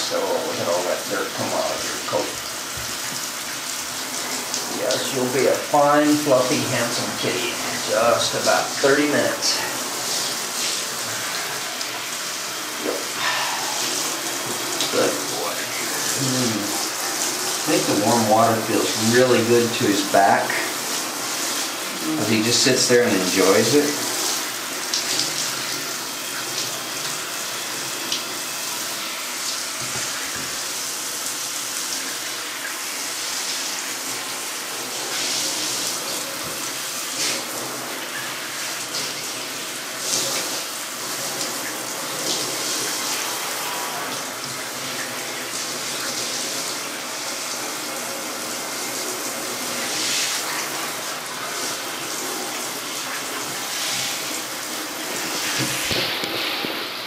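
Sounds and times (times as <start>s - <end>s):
water running from bathtub tap: 0.0s - 57.0s.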